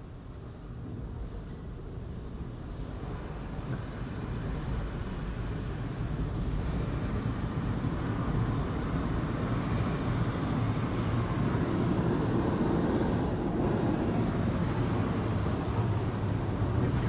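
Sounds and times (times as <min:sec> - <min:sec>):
car wash water spray rumble: 0:00.1 - 0:17.0.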